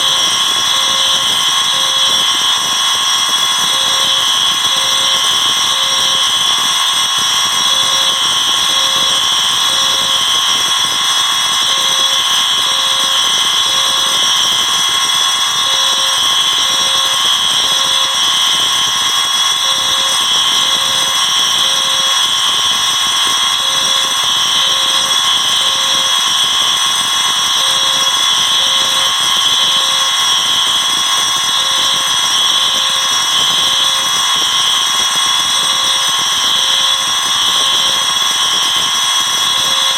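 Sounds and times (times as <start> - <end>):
fire alarm tones: 0.0 - 39.9
low pulsing alarm tone: 0.0 - 39.9.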